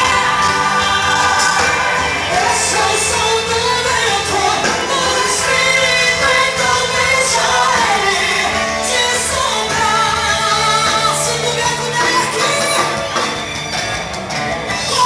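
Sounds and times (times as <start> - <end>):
woman singing gospel song: 0.0 - 13.0.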